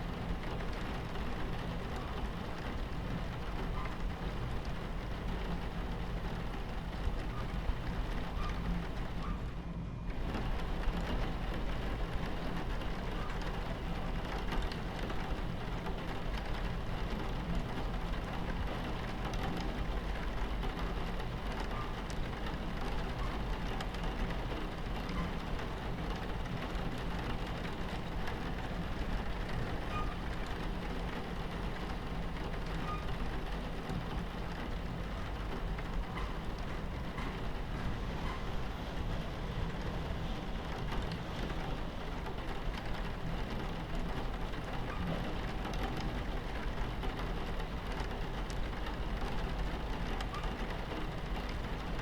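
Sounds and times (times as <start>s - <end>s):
rain pattering on window: 0.0s - 52.0s
train rumbling on tracks: 0.0s - 52.0s.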